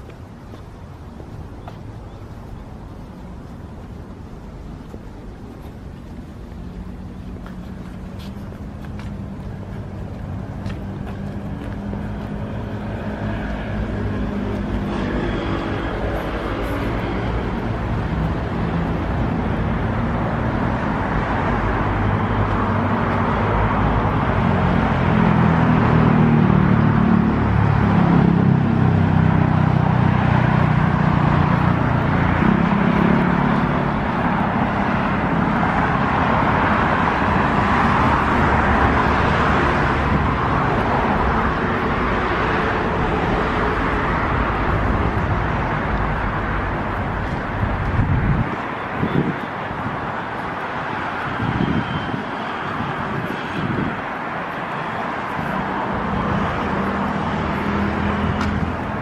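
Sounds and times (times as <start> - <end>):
road traffic noise: 0.0 - 59.0
vehicle engine drone: 0.0 - 59.0.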